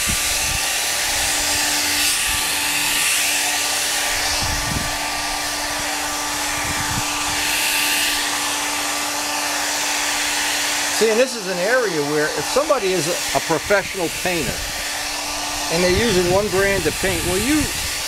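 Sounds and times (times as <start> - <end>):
heat gun blowing hot air: 0.0 - 18.0.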